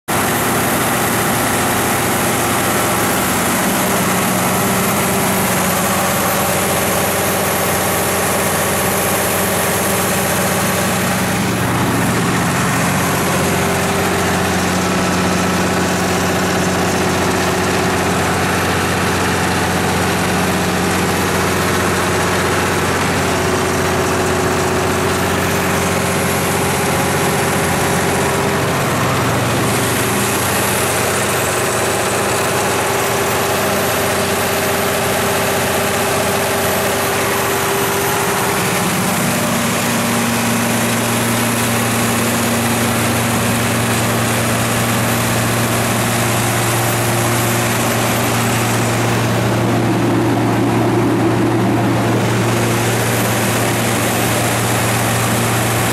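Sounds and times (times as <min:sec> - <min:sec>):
generator diesel engine running: 0:00.0 - 0:55.9
cooling fan and exhaust hiss: 0:00.1 - 0:55.9.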